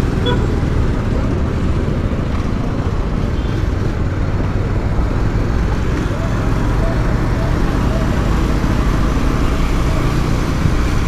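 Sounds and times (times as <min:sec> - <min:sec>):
motorcycle engine: 0:00.0 - 0:11.0
road traffic: 0:00.0 - 0:11.0.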